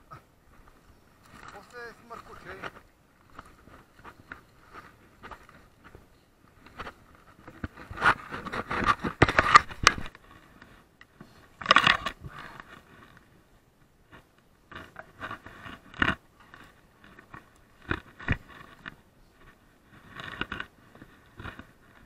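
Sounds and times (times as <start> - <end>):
twigs scraping and crackling on bike: 0.0 - 22.0.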